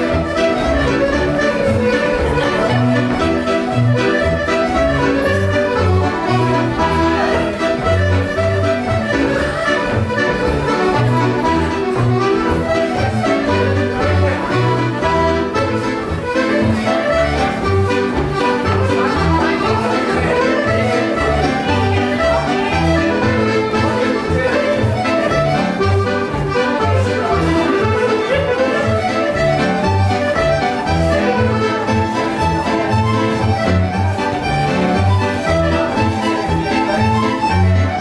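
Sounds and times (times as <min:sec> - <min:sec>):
accordion playing dance tune: 0:00.0 - 0:38.0
fiddle playing: 0:00.0 - 0:38.0.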